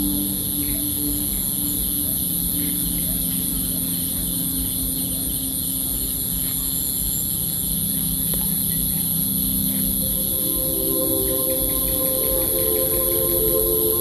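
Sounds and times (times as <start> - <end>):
night insects chorus: 0.0 - 14.0.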